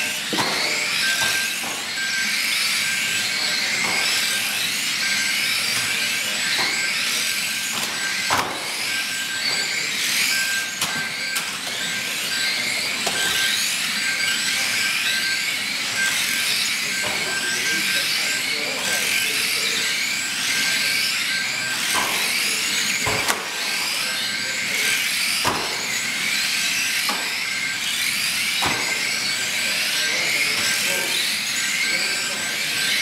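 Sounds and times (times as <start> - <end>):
electric motors whining: 0.0 - 33.0.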